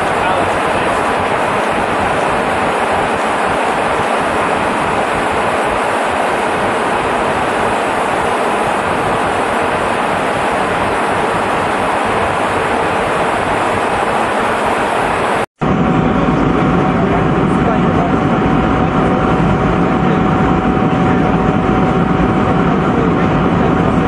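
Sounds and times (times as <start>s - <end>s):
airplane cabin engine noise: 0.0s - 24.0s.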